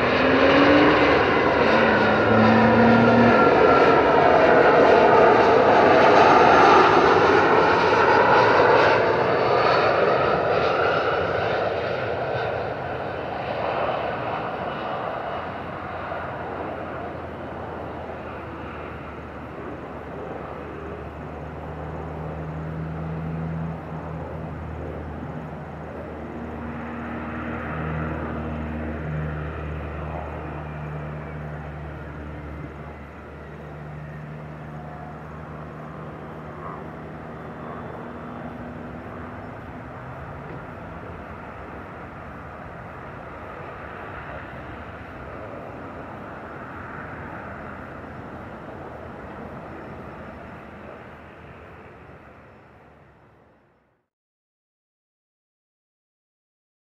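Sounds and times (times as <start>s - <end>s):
distant jet engines rumbling: 0.0s - 53.8s.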